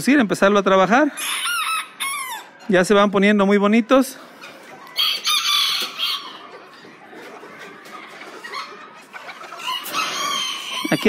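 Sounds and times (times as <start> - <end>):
chickens squawking: 0.0 - 11.0.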